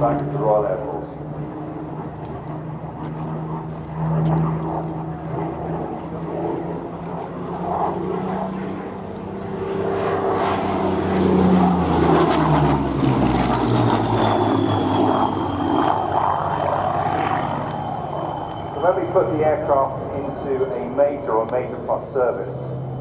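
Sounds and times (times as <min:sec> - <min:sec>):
piston aircraft engine flying past: 0:00.0 - 0:23.0.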